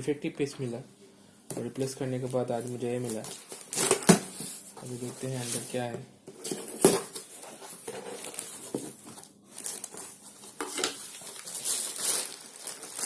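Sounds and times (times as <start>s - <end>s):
cardboard packaging rustling: 1.6s - 13.0s.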